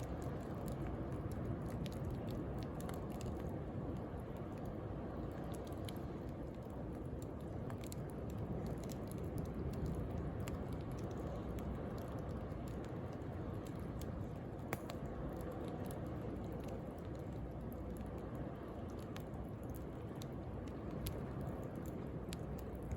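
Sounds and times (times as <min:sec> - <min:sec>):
bonfire crackling and popping: 0:00.0 - 0:22.9.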